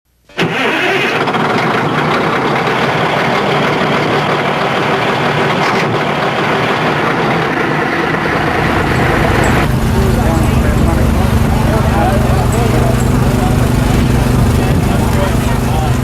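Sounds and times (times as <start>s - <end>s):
diesel engine running: 0.4s - 16.0s.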